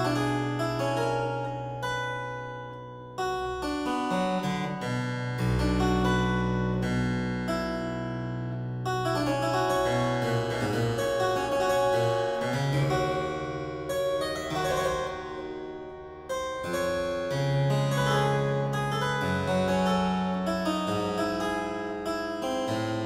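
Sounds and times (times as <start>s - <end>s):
harpsichord chords and melody: 0.0s - 23.0s.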